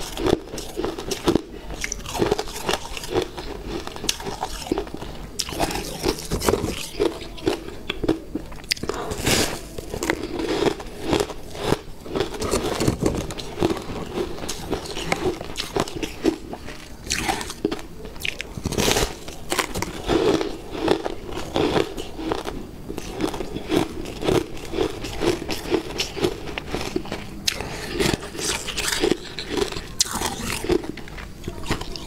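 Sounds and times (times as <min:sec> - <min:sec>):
person crunching and chewing: 0:00.0 - 0:32.0.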